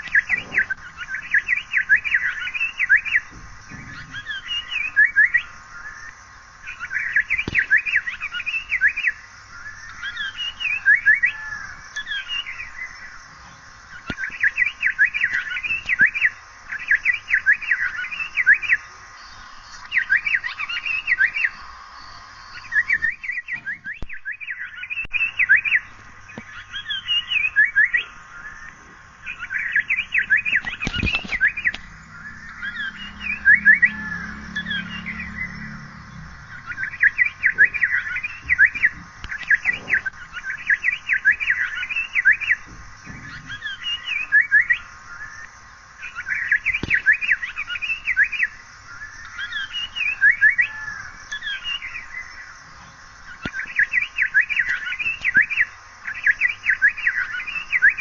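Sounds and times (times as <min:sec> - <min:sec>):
bird chattering calls: 0:00.0 - 0:58.0.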